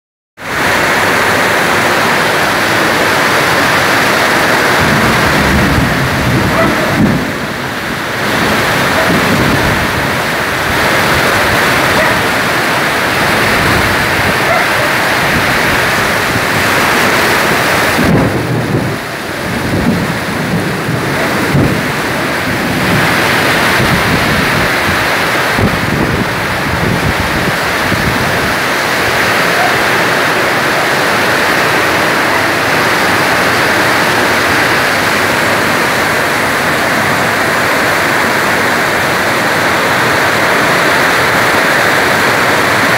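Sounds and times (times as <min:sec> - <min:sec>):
heavy rain on roof and pavement: 0:00.4 - 0:42.9
low thunder rumbling: 0:01.9 - 0:42.9.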